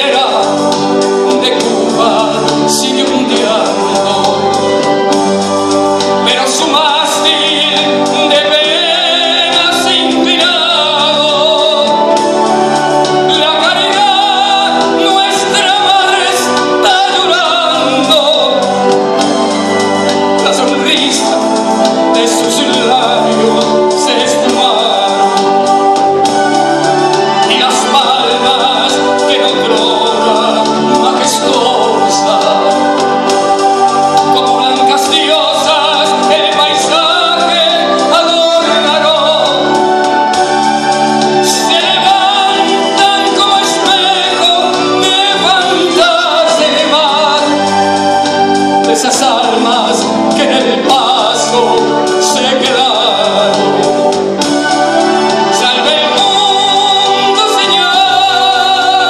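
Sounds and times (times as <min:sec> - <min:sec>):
instrumental accompaniment: 0:00.0 - 0:59.0
man singing into microphone: 0:00.0 - 0:59.0.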